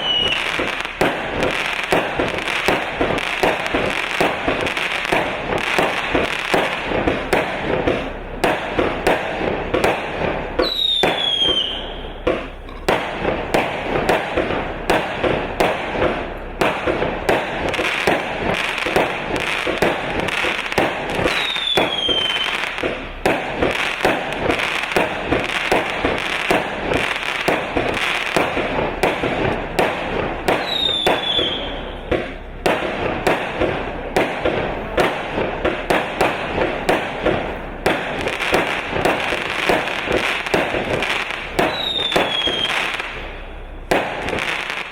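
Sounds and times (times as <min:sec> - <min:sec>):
falling firework whistles: 0:00.0 - 0:08.2, 0:09.8 - 0:15.2, 0:17.7 - 0:32.4, 0:36.2 - 0:44.9
fireworks firing and crackling: 0:00.0 - 0:44.9.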